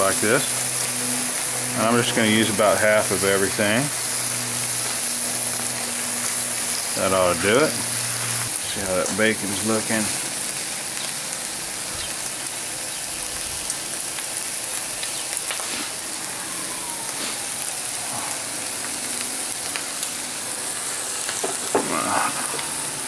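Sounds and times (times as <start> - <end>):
bacon sizzling on a griddle: 0.0 - 23.0.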